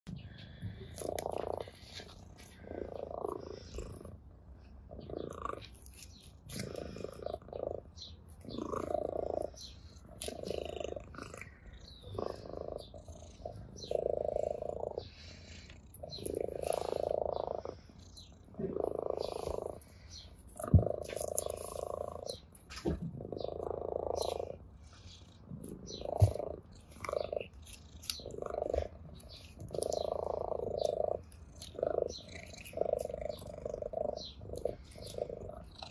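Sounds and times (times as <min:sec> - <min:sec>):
cat purring: 0:00.3 - 0:35.9.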